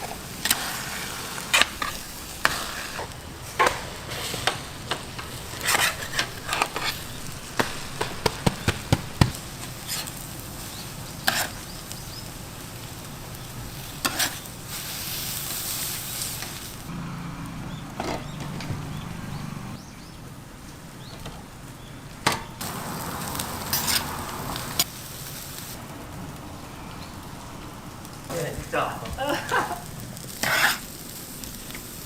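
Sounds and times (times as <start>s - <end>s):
food sizzling in a pan: 0.0s - 17.0s, 22.6s - 32.0s.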